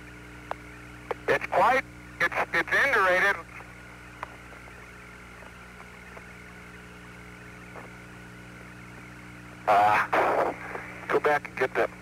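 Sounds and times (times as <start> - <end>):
faint steady tone: 0.0 - 12.0
radio link hiss and hum: 0.0 - 12.0.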